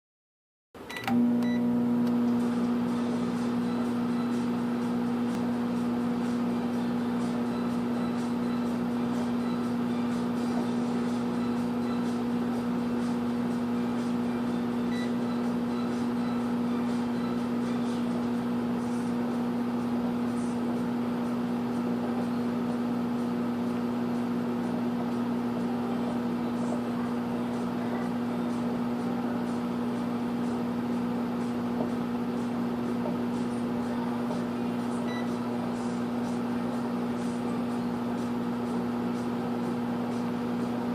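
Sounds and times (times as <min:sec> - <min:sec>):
microwave oven humming: 0:00.8 - 0:40.9.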